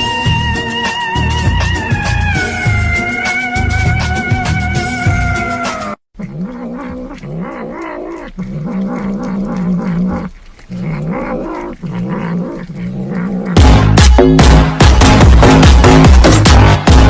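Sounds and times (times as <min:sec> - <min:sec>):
cat yowling: 0:00.0 - 0:13.7.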